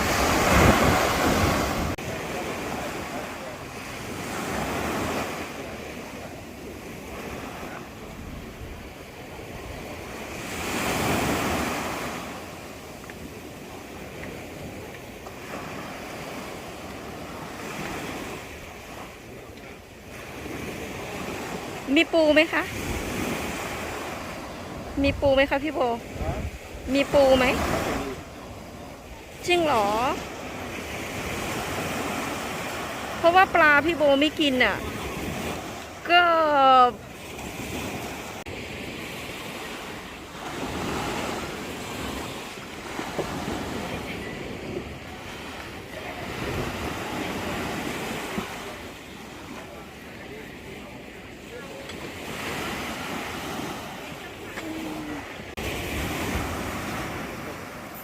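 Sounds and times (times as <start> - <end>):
sea waves washing: 0.0 - 58.0.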